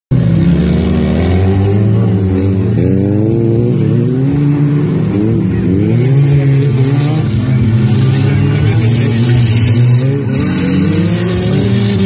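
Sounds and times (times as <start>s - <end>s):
car engines revving: 0.1s - 12.0s.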